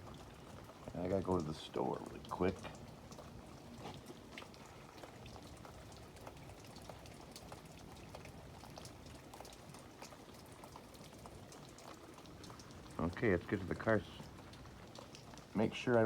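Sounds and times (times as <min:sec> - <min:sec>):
faint steady hiss: 0:00.0 - 0:06.8, 0:08.2 - 0:16.0
freezing rain ticking on ice: 0:00.0 - 0:16.0.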